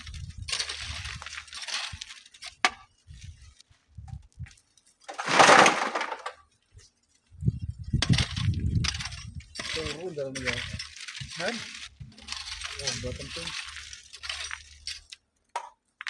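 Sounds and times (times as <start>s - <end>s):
sand and gravel rushing: 0.0s - 3.8s, 5.0s - 6.4s, 7.3s - 15.1s.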